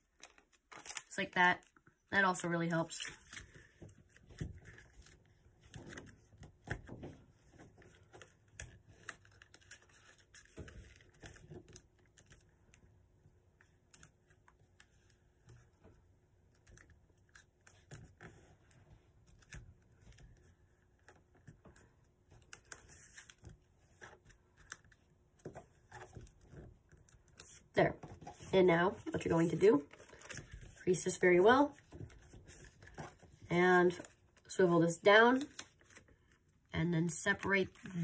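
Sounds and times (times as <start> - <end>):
paper being folded and creased: 0.0 - 1.9, 3.0 - 34.5, 35.3 - 36.5, 37.3 - 38.0.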